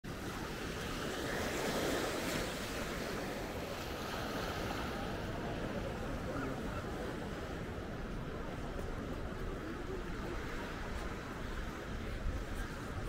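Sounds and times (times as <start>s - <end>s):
small waves breaking on shore: 0.1s - 13.0s
wind on microphone: 0.2s - 13.0s.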